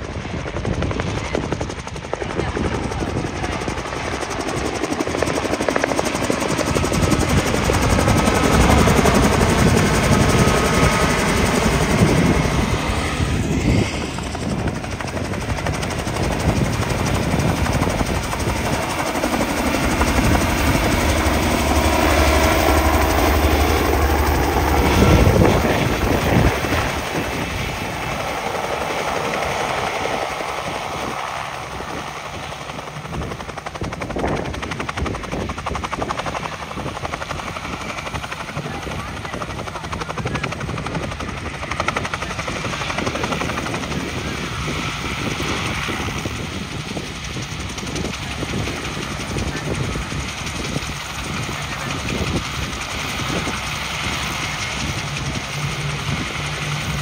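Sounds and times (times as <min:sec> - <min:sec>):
helicopter rotor beating: 0:00.0 - 0:57.0.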